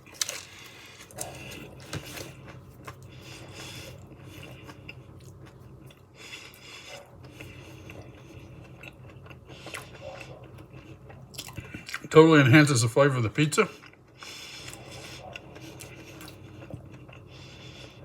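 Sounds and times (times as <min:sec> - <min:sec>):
person chewing crunchy food: 0:00.0 - 0:12.1, 0:13.6 - 0:18.0
low steady hum: 0:00.0 - 0:18.0.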